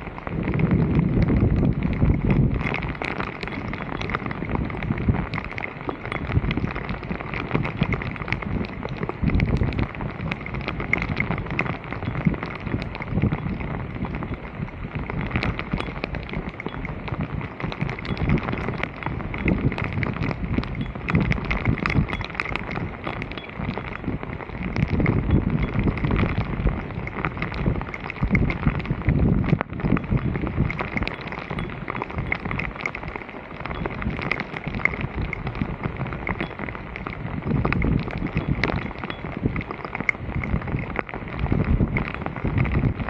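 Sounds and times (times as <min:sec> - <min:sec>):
floodwater rushing and splashing: 0:00.0 - 0:43.0
wind buffeting microphone: 0:00.0 - 0:43.0.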